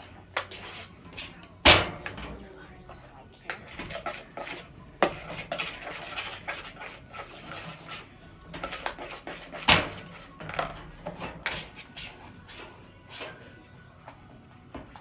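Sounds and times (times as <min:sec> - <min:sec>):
slime being stirred: 0:00.0 - 0:14.3.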